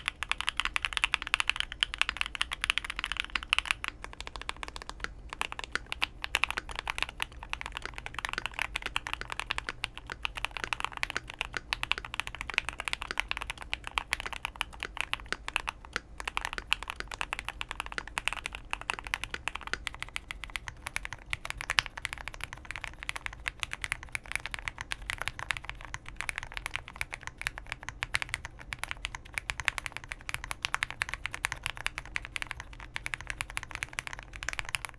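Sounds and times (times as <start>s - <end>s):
fast mechanical keyboard typing: 0.0s - 34.9s.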